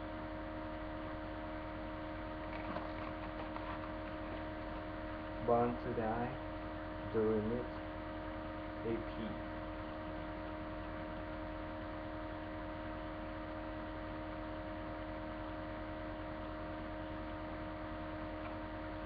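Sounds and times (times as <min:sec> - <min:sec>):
electrical hum with tones: 0:00.0 - 0:19.0
microphone hiss: 0:00.0 - 0:19.0.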